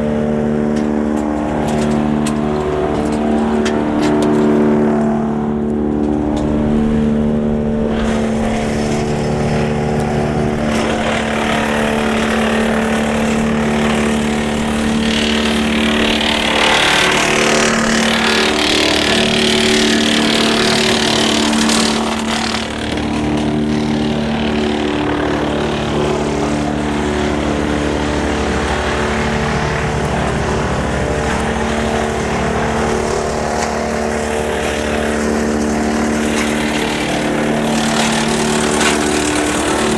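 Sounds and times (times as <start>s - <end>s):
branches grinding through chipper: 0.0s - 39.9s
wood chipper drone: 0.0s - 39.9s.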